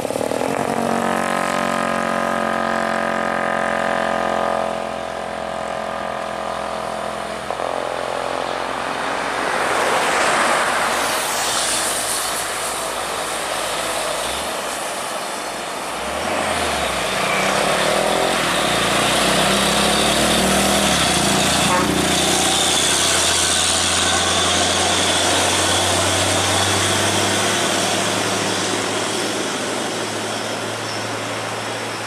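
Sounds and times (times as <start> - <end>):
truck diesel engine pulling uphill: 0.0 - 11.0, 12.4 - 32.0
vehicles passing: 0.0 - 32.0.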